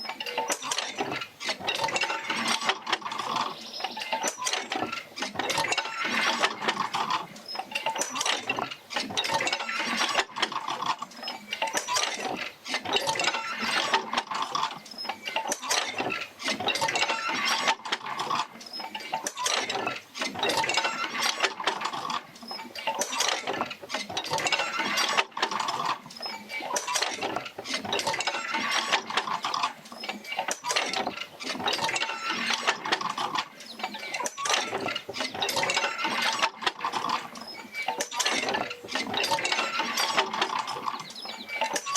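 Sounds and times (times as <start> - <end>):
creaking and clinking wheel: 0.0 - 41.9.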